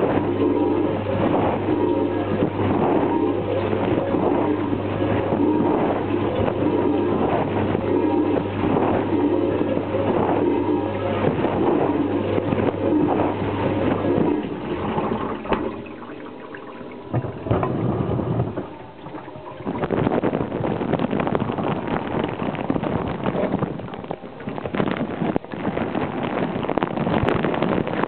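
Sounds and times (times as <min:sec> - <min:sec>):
dishwasher pump hum: 0:00.0 - 0:28.0
water splashing in dishwasher: 0:00.0 - 0:28.0.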